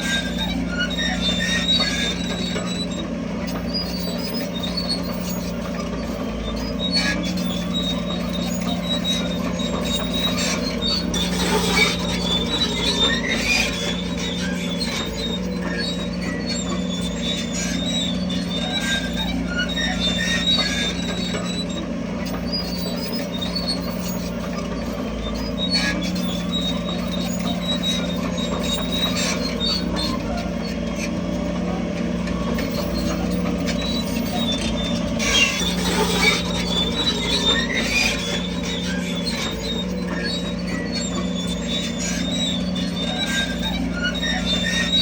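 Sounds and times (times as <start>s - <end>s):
diesel engine droning: 0.0s - 45.0s
steel tracks squealing: 0.0s - 45.0s.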